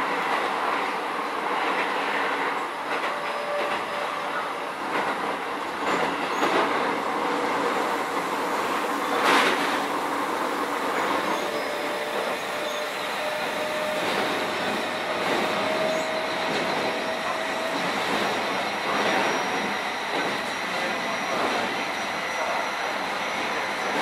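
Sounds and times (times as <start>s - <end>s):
train wheel and rail noise: 0.0s - 24.0s
electric train whine: 2.0s - 24.0s.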